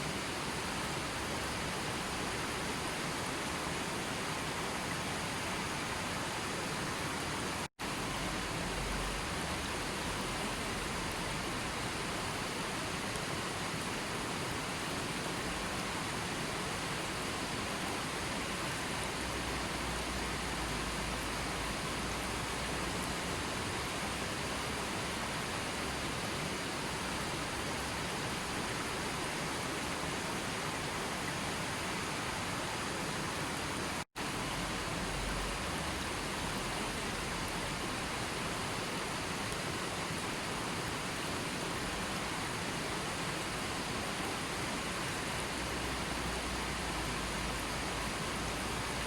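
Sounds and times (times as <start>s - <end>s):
rushing water: 0.0s - 49.0s.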